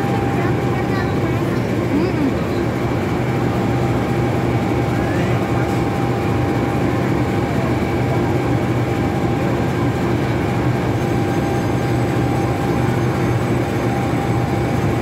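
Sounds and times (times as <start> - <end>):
locomotive engine idling: 0.0 - 15.0.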